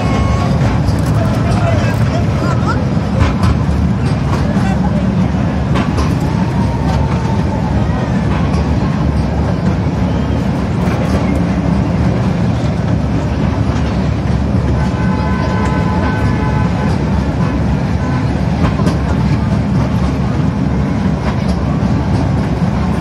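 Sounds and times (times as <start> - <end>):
toy train rumbling: 0.0 - 23.0.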